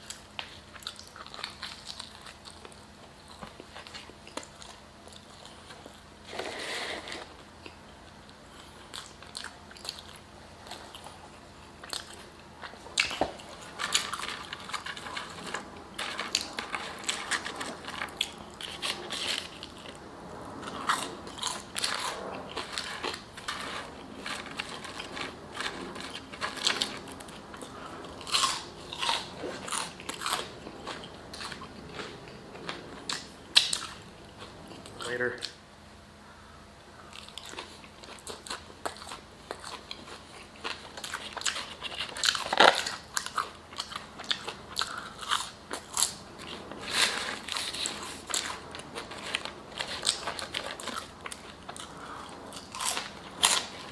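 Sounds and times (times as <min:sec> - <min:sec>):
person chewing food: 0:00.0 - 0:20.0, 0:20.6 - 0:35.6, 0:37.0 - 0:53.9.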